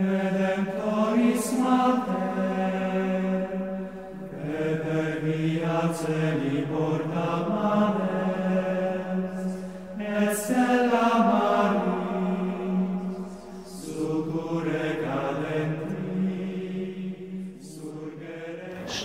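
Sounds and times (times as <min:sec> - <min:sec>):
voices chanting slowly: 0:00.0 - 0:19.0.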